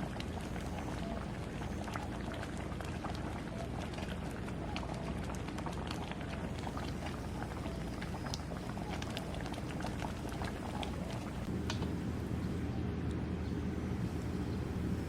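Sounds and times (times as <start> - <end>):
liquid boiling: 0.0 - 15.0.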